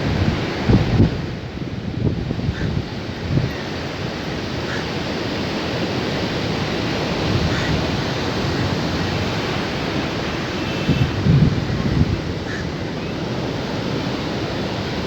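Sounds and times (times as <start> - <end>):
ocean surf on a beach: 0.0 - 15.0.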